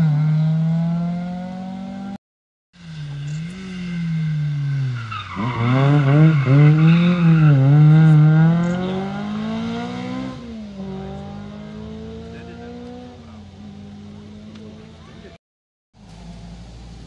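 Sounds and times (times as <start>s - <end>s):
rally car engine revving: 0.0s - 2.2s, 2.8s - 15.4s.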